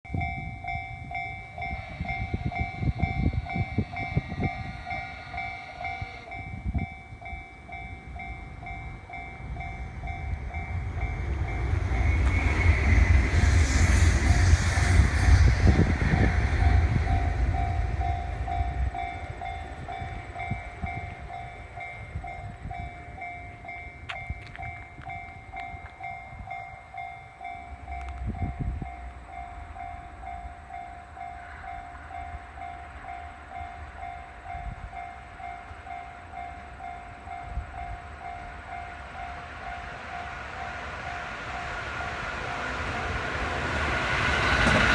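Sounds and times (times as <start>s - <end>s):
electric train rumbling past: 0.1s - 44.9s
level crossing warning bell: 0.1s - 44.9s.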